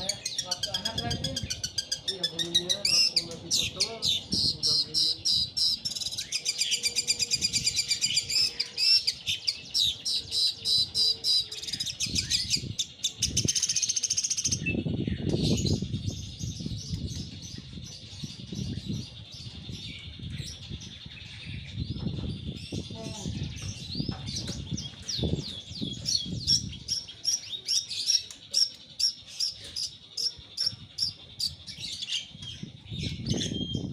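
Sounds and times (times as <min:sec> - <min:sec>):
bird singing trills: 0:00.0 - 0:33.9.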